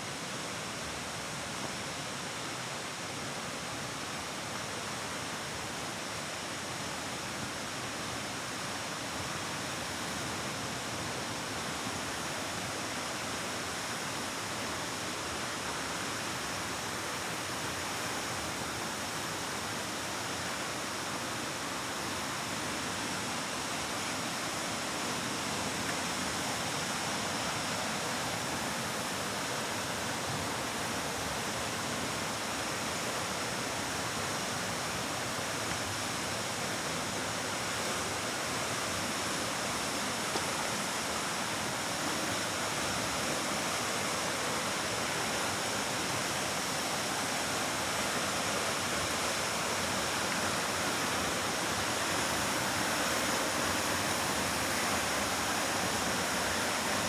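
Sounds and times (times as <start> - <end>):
waterfall echoing in cave: 0.2 - 57.0.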